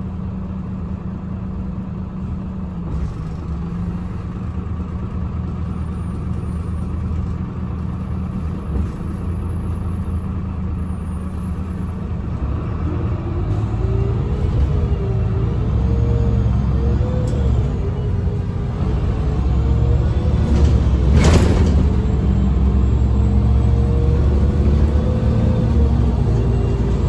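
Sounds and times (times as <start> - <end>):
bus engine hum from inside: 0.0 - 27.0.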